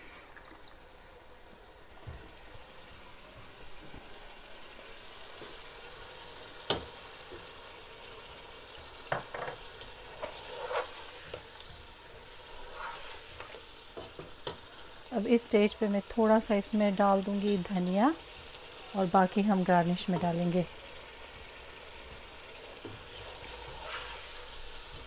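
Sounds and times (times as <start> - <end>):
meat sizzling in oil: 0.0 - 25.0.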